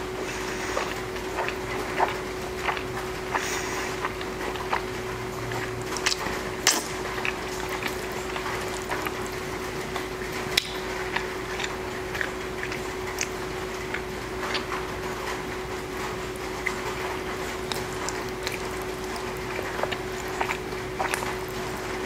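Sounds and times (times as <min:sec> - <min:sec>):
close-up chewing: 0:00.0 - 0:22.0.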